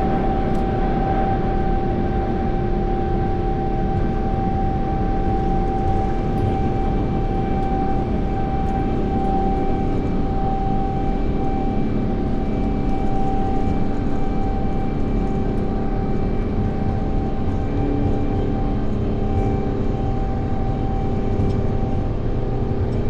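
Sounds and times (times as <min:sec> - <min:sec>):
jet engines roaring in cabin: 0:00.0 - 0:23.0.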